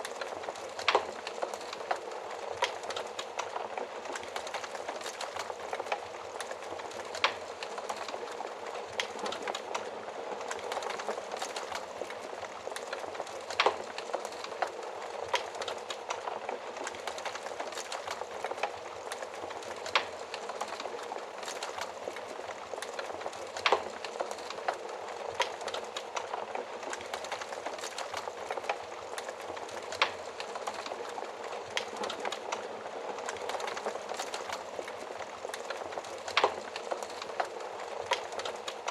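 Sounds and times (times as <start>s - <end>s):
fire crackling and hissing: 0.0s - 38.9s.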